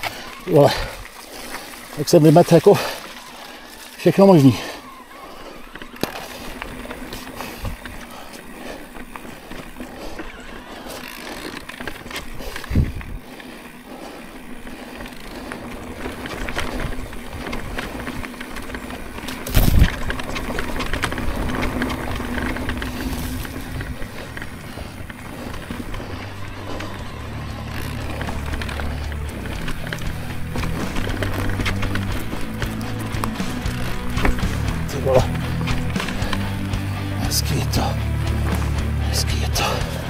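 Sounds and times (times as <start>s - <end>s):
bike rattling and clicking: 0.0s - 40.0s
steady motor hum: 0.0s - 40.0s
tyre noise on trail: 0.0s - 40.0s.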